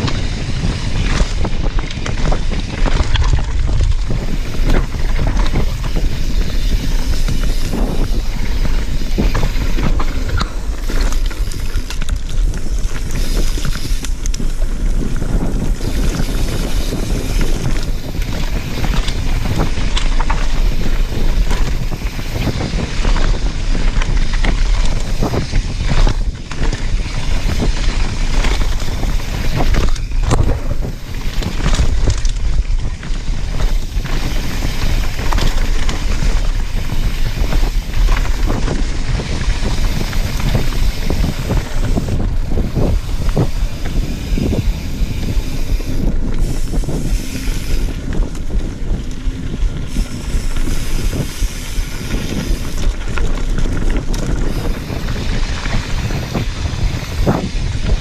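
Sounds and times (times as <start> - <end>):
bike knocking and clattering: 0.0 - 58.0
tyres rolling on dirt: 0.0 - 58.0
wind rushing over microphone: 0.0 - 58.0.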